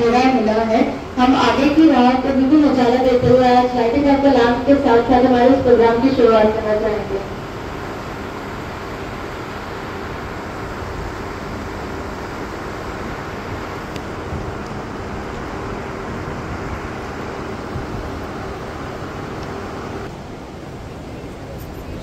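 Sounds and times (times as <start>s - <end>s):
electric fans rushing hum: 0.0s - 22.0s.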